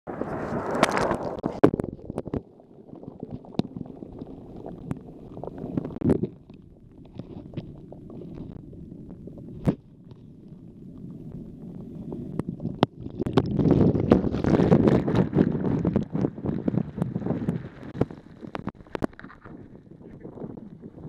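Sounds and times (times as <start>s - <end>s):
muffled underwater rumble: 0.1s - 21.0s.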